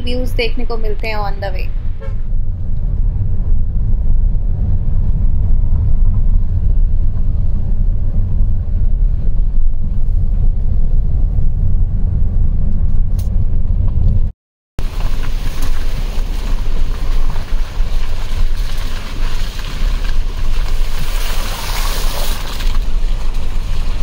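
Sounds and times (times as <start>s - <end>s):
wind buffeting microphone: 0.0s - 24.0s
vehicle driving on gravel: 2.3s - 24.0s.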